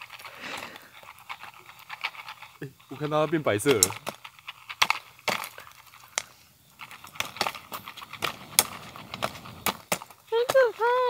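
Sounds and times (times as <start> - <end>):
popcorn popping: 1.6 - 11.0.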